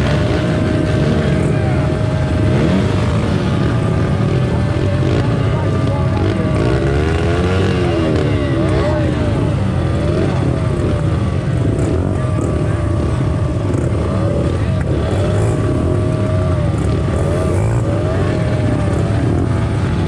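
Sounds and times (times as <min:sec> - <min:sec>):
pit bike engines idling and revving: 0:00.0 - 0:20.0.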